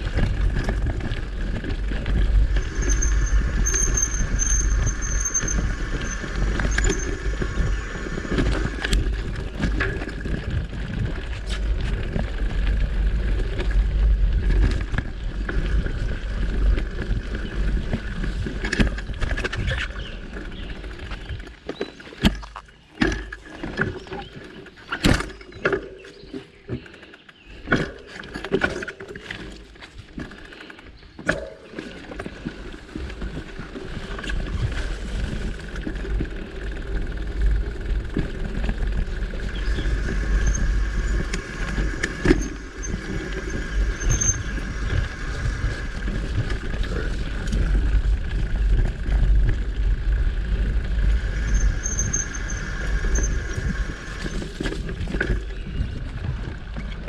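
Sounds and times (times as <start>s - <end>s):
wind rumble on microphone: 0.0s - 22.4s, 31.8s - 57.0s
bike rattling and knocking: 0.0s - 57.0s.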